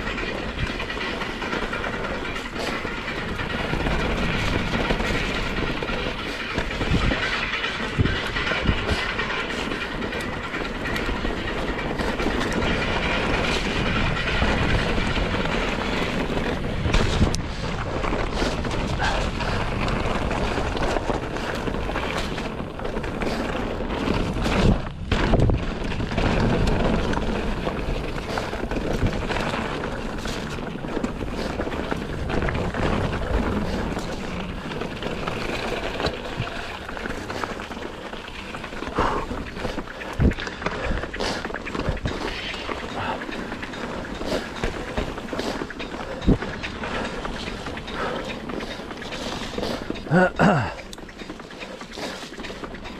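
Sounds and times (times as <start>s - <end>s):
bike knocking on rocks and roots: 0.0s - 52.9s
mountain bike tyres and rattle: 0.0s - 52.9s.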